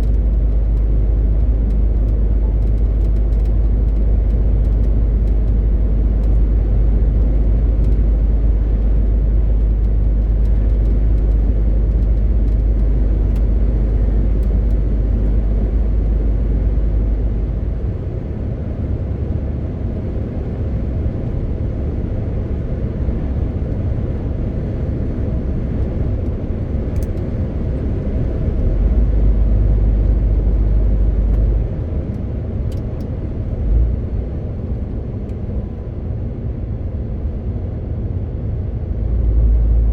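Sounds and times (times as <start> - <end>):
truck diesel engine rumbling: 0.0 - 36.2
road noise: 0.0 - 39.9.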